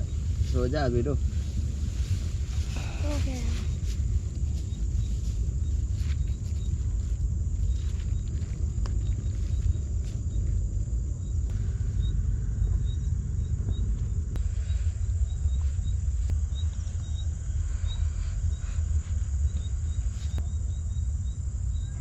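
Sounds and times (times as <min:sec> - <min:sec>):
crickets chirping: 0:00.0 - 0:22.0
high insect drone: 0:00.0 - 0:22.0
loud low rumble: 0:00.0 - 0:22.0.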